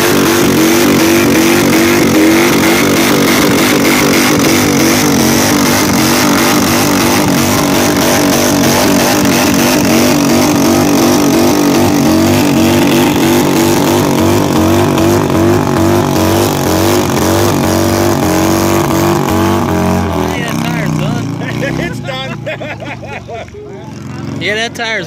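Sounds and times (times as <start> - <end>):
rear tire spinning on ground: 0.0 - 22.0.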